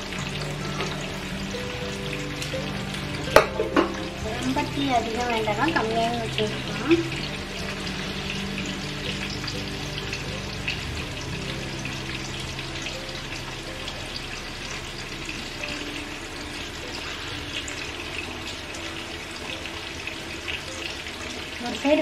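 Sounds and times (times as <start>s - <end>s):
chicken sizzling in oil: 0.0s - 22.0s
oil crackling and popping: 0.0s - 22.0s.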